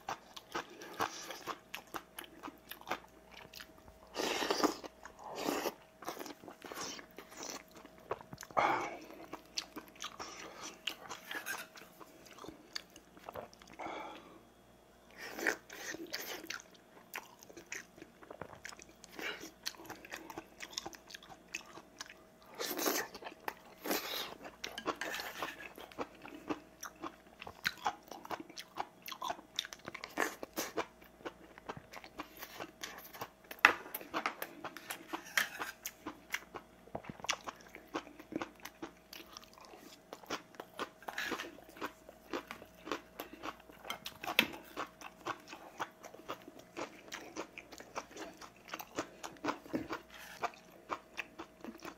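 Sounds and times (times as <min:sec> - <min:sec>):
man chewing and crunching food: 0:00.0 - 0:51.9.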